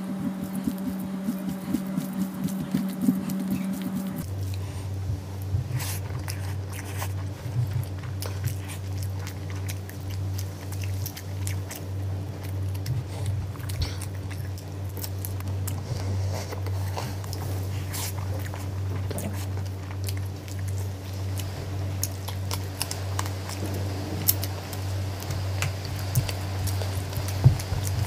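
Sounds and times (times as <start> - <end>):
biting into chicken: 0.0 - 4.6, 5.7 - 28.0
lip smacks: 0.0 - 28.0
steady low hum: 0.0 - 28.0
wet chewing: 0.0 - 28.0.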